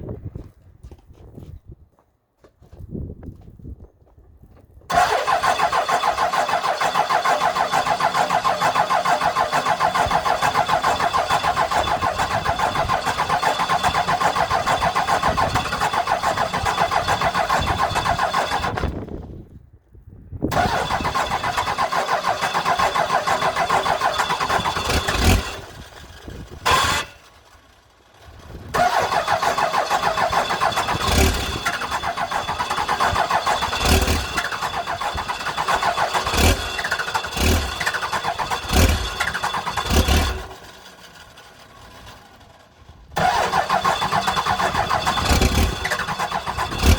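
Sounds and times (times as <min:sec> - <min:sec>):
diesel engine cranking: 0:04.9 - 0:19.6, 0:20.5 - 0:46.9.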